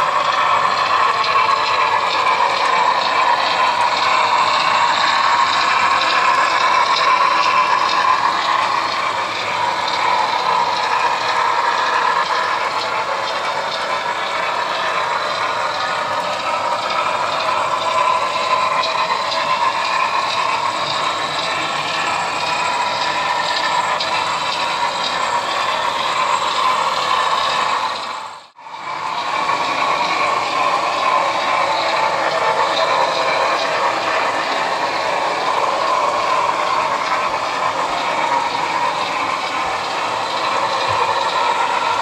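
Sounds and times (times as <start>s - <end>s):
model train wheels clattering: 0.0s - 42.0s.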